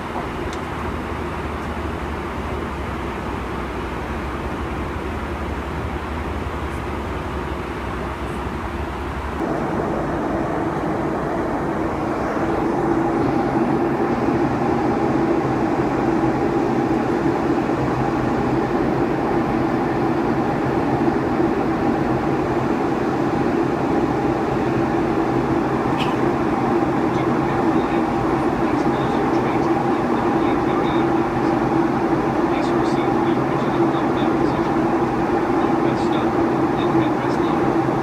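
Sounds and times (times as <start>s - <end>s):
airplane cabin hum and rush: 0.0s - 38.0s
droning hum: 0.0s - 38.0s.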